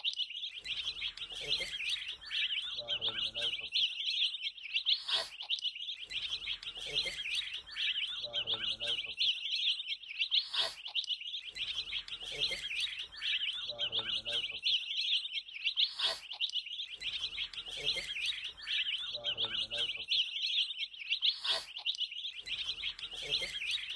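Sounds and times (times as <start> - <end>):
chicks peeping: 0.0 - 23.9.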